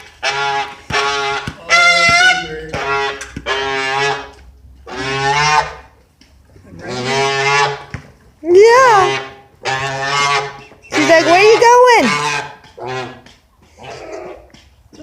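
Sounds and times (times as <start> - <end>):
goose honking: 0.0 - 6.0, 6.6 - 13.3.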